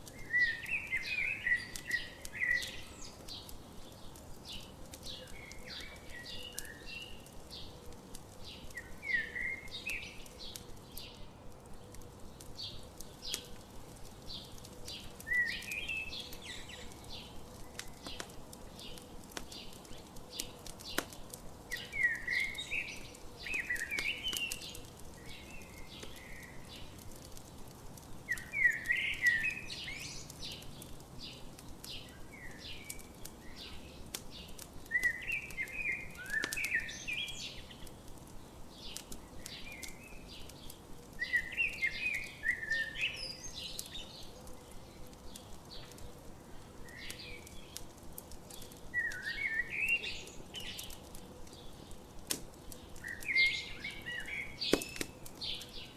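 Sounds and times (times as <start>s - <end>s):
campfire crackling and popping: 0.0s - 55.9s
songbird singing: 0.0s - 55.9s.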